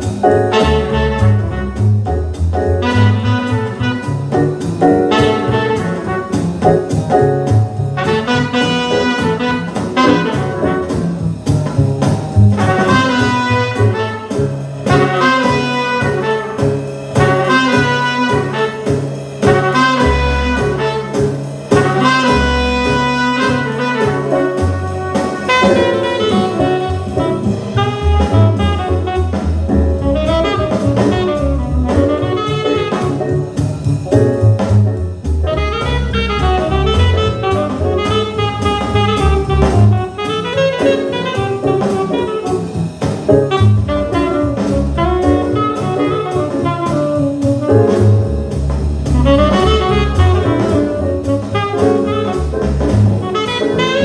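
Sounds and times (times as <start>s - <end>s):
jazz record playing: 0.0s - 54.0s.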